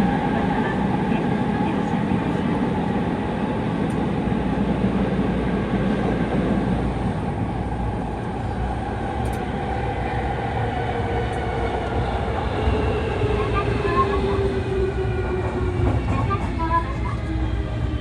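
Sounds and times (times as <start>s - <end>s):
train wheels and air rumbling: 0.0s - 18.0s.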